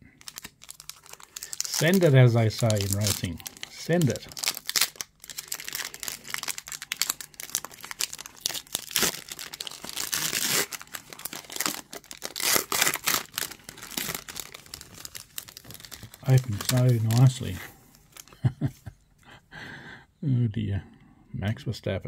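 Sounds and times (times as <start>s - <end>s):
wrapper being torn and crinkled: 0.2s - 18.4s.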